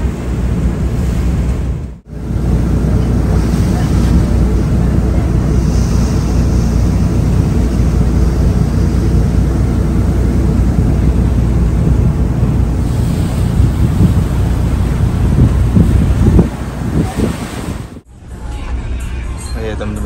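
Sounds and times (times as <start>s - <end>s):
wind buffeting microphone: 0.0s - 18.1s
sea water rushing: 0.0s - 19.0s
diesel engine drone: 0.0s - 20.0s.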